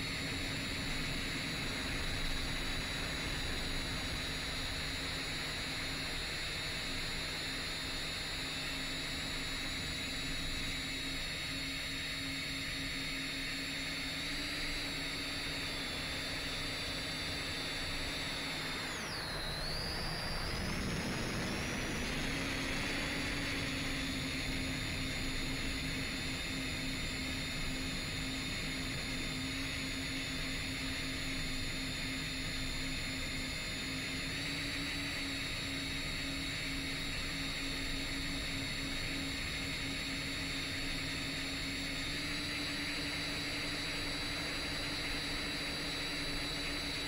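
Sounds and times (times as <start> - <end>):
drone motors whining: 0.0 - 47.0.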